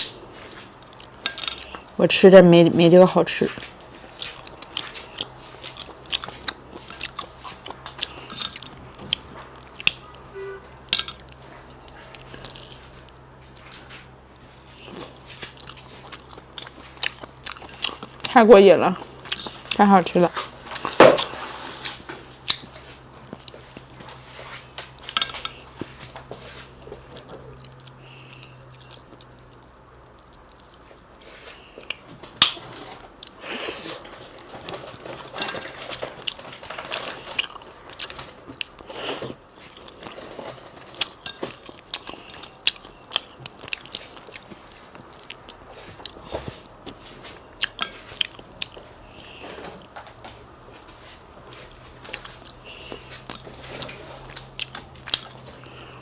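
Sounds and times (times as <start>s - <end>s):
person chewing crunchy food: 0.0s - 2.0s, 3.5s - 56.0s.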